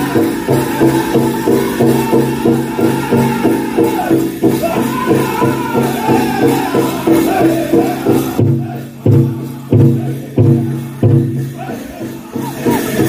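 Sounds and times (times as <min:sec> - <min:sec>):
big drum beating: 0:00.0 - 0:13.0
group of voices singing: 0:00.0 - 0:13.0.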